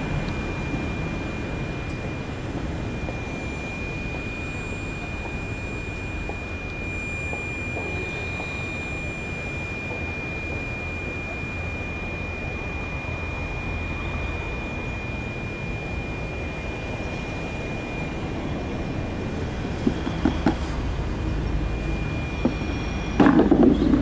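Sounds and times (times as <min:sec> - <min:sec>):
high-pitched whine: 0:00.0 - 0:24.0
outdoor background rumble: 0:00.0 - 0:24.0.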